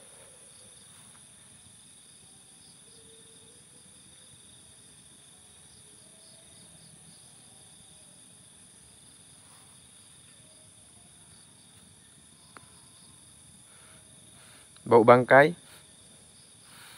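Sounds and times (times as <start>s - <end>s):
night insects chirring: 0.0s - 16.9s.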